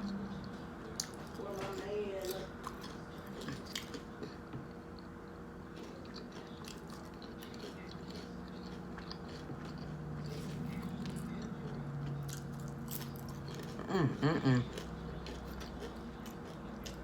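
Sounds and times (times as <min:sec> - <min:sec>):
chewing sandwich with crunching: 0:00.0 - 0:17.0
low steady hum: 0:00.0 - 0:17.0.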